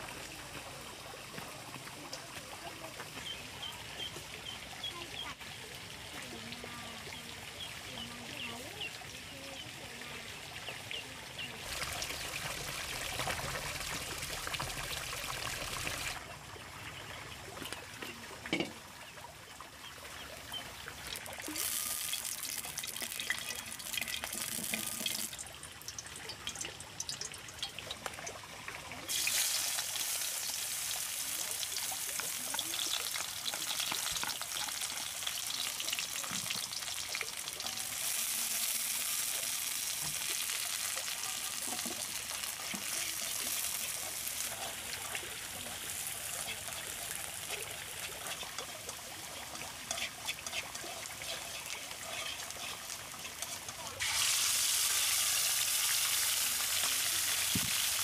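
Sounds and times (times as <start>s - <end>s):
water trickling and pouring: 0.0s - 58.0s.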